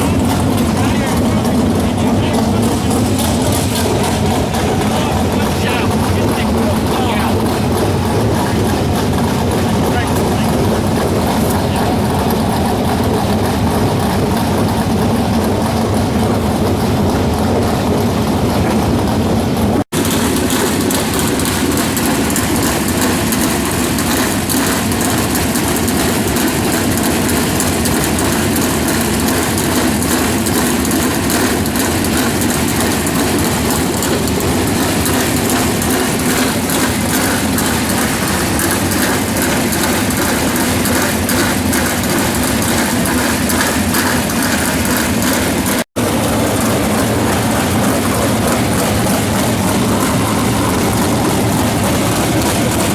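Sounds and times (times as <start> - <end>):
race car engines roaring: 0.0 - 52.9.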